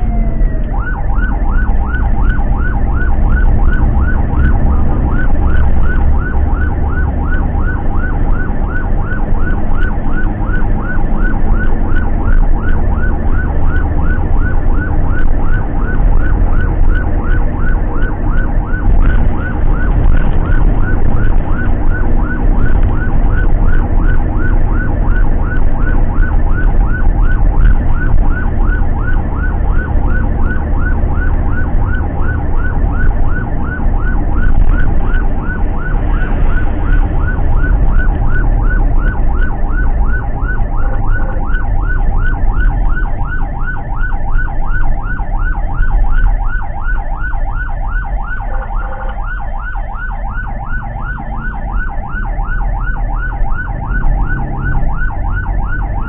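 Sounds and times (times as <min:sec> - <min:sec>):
engine and road rumble: 0:00.0 - 0:56.0
siren yelping: 0:00.0 - 0:56.0.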